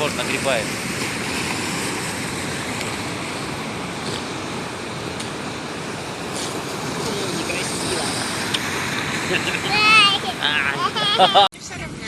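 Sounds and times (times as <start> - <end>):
sea waves breaking on shore: 0.0 - 11.5.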